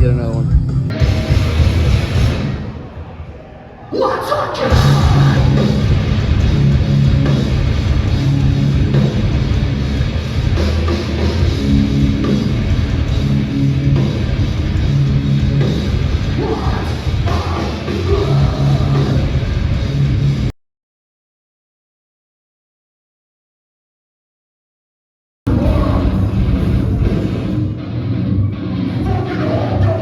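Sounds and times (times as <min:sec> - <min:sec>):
live heavy metal band: 0:00.0 - 0:03.2, 0:04.2 - 0:20.5, 0:25.5 - 0:30.0.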